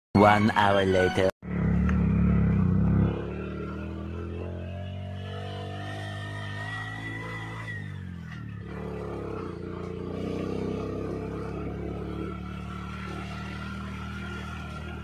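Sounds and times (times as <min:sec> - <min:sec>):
vehicle engine running: 0:01.4 - 0:07.7, 0:08.4 - 0:15.0.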